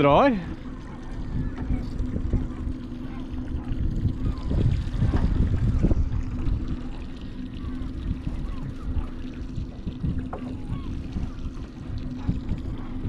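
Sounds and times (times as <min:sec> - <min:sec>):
steady low hum: 0:00.0 - 0:13.0
water slapping against boat hull: 0:00.0 - 0:13.0
wind buffeting microphone: 0:00.0 - 0:13.0.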